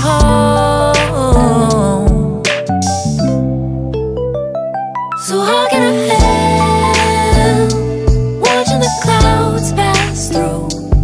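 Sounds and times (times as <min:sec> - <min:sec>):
song with bass and beat: 0:00.0 - 0:11.0.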